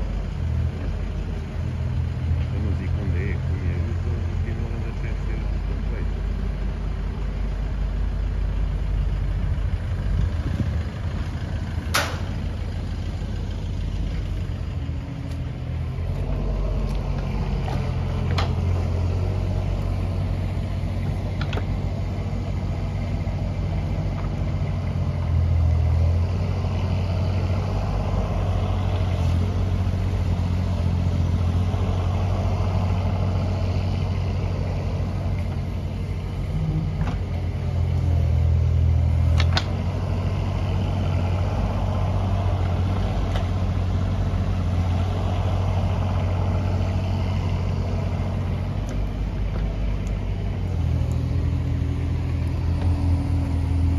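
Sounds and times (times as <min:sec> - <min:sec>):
mini excavator diesel engine: 0:00.0 - 0:53.9
truck engine running: 0:00.0 - 0:53.9.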